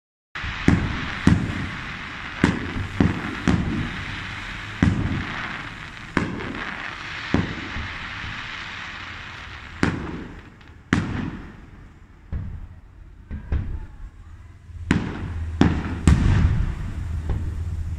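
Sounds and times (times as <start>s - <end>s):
fireworks bursting: 0.4s - 17.9s
steady hiss: 0.4s - 17.9s.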